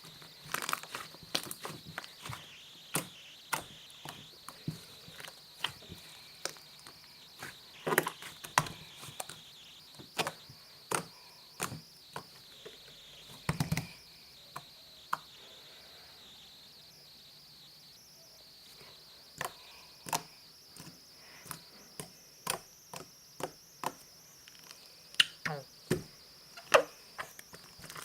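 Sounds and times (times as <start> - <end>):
steady high-pitched hiss: 0.0 - 28.0.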